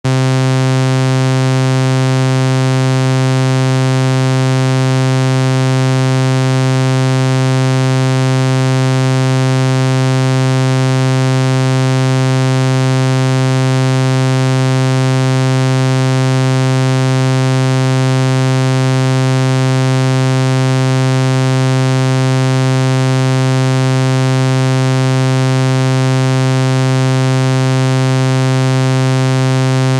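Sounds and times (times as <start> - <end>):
low electronic buzzing tone: 0.0 - 29.9.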